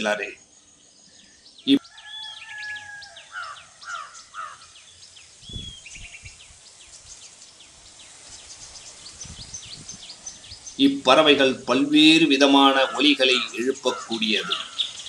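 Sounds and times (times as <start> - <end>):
small birds chirping: 0.0 - 15.0
long drawn bird call: 1.1 - 11.6, 12.2 - 15.0.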